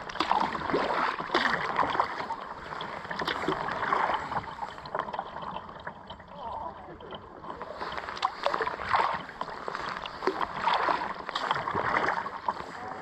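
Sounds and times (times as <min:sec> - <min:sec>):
paddle splashing through water: 0:00.0 - 0:13.0.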